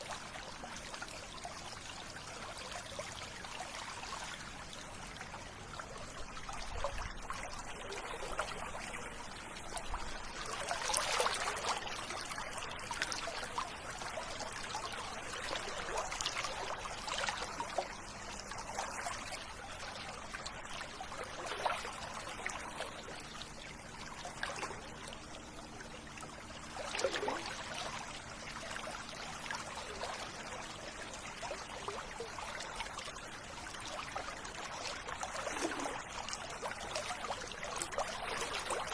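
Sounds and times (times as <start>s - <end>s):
river water flowing and splashing: 0.0s - 38.9s.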